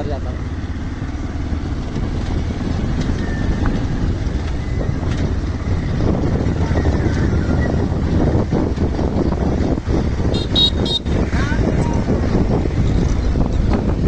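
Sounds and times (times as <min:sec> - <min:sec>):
motorcycle engine rumble: 0:00.0 - 0:14.0
wind on microphone: 0:01.5 - 0:14.0.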